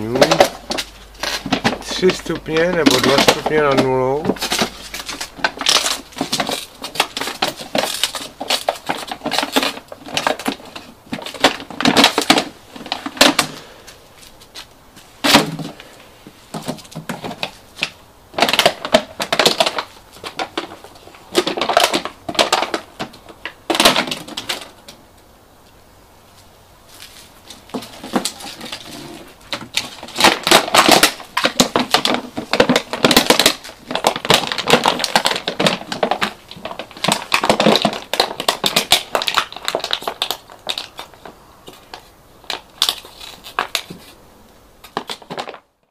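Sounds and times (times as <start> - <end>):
dog crunching plastic bottle: 0.0 - 14.6, 15.2 - 25.0, 27.0 - 44.2, 44.8 - 45.9.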